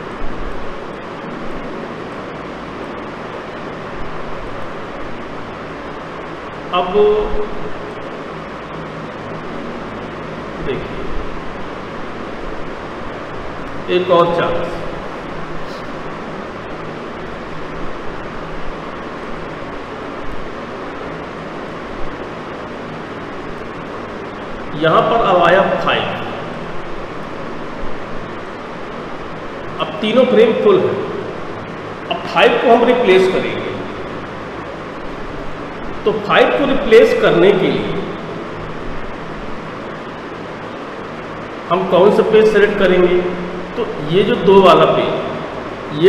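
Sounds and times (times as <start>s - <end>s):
faint low hum: 0.0s - 46.0s
rushing room noise: 0.0s - 46.0s.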